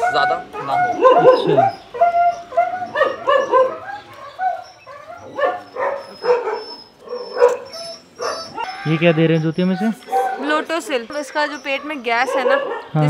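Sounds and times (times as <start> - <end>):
dog yelping and whining: 0.0 - 13.0.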